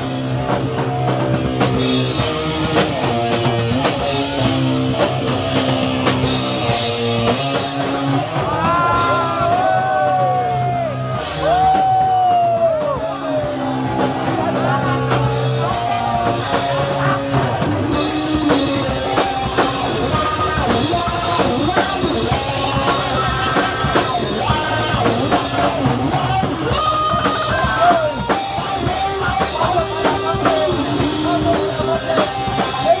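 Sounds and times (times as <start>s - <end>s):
punk band playing live: 0.0s - 33.0s.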